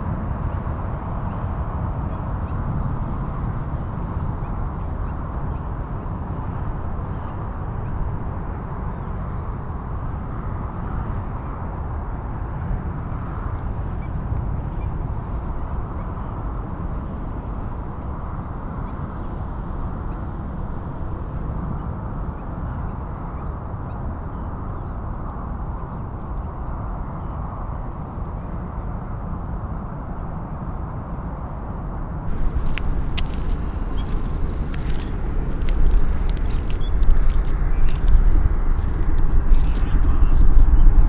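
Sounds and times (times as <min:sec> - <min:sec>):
low wind rumble: 0:00.0 - 0:41.0.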